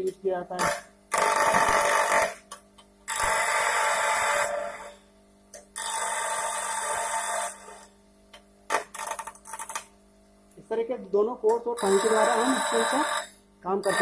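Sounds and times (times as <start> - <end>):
faint motor hum: 0.0 - 14.0.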